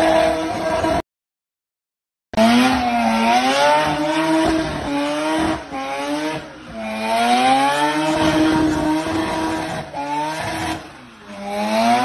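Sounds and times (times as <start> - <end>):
rotary engine revving hard: 0.0 - 1.0, 2.4 - 12.0.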